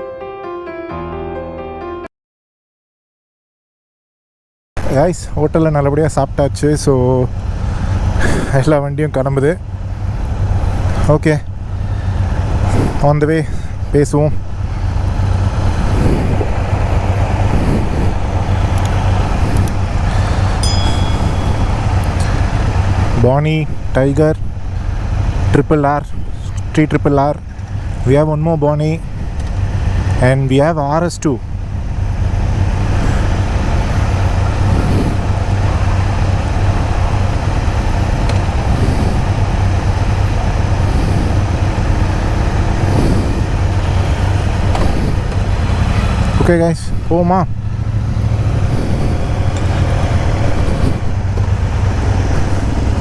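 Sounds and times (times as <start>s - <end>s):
motorcycle engines idling: 4.8s - 53.0s.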